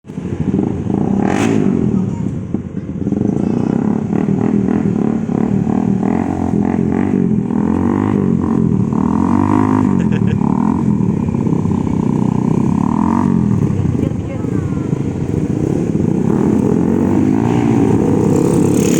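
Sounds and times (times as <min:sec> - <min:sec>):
motorcycle engines revving: 0:00.0 - 0:18.9.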